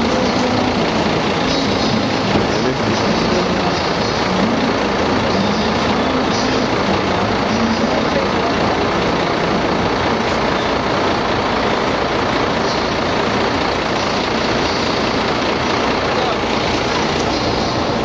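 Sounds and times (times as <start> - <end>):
loud street traffic: 0.0 - 18.0.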